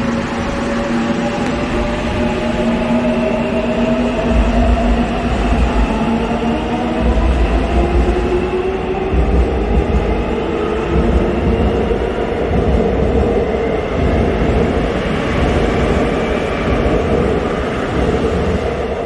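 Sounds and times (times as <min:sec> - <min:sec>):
subway train passing: 0:00.0 - 0:19.0.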